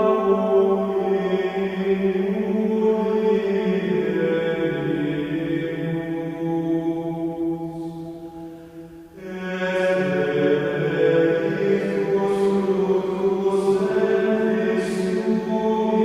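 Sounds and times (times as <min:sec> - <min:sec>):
chant-like vocal music: 0:00.0 - 0:16.0.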